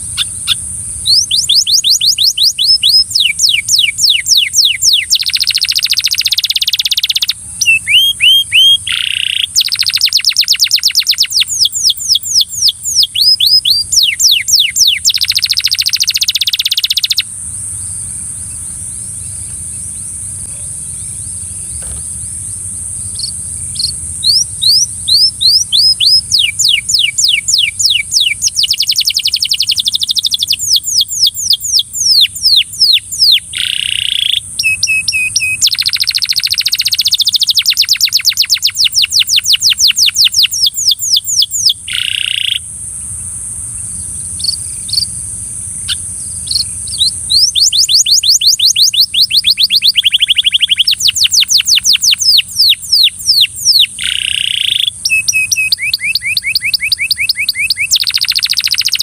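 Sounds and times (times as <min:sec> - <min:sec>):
canary singing in trills: 0:00.0 - 0:42.7, 0:43.9 - 0:59.0
steady high hiss: 0:00.0 - 0:59.0.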